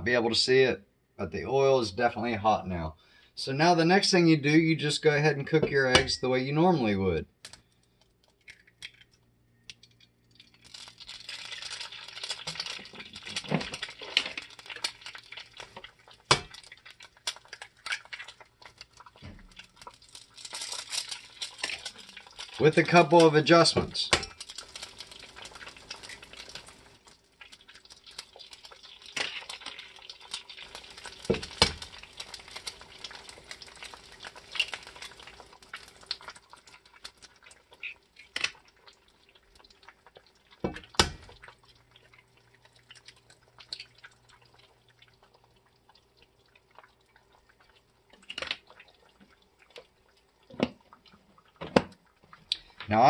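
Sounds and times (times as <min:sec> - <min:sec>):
eggs sizzling in oil: 0:02.2 - 0:53.0
eggs cracking: 0:05.3 - 0:06.5, 0:07.3 - 0:52.9.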